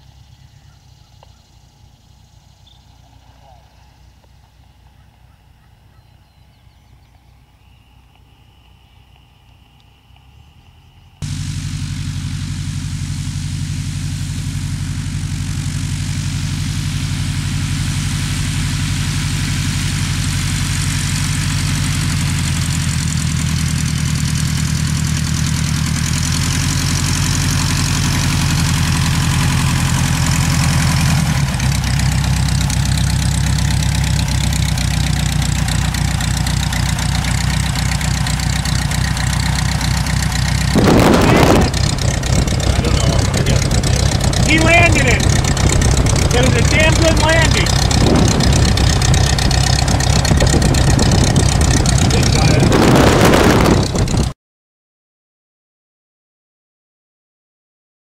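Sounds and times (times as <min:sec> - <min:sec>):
small plane engine droning: 0:00.0 - 0:54.4.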